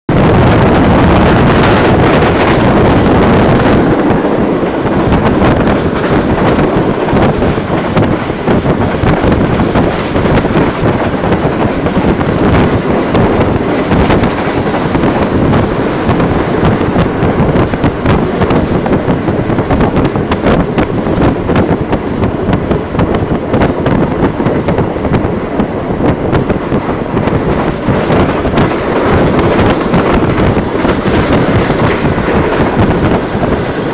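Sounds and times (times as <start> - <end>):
wind buffeting microphone: 0.1 - 33.9
train wheels clattering: 0.7 - 33.9.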